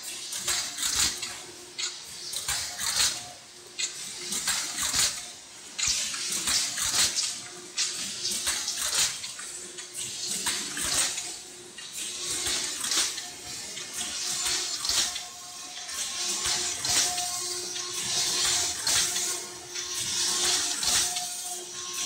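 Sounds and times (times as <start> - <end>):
can forming machine running: 0.0 - 22.0.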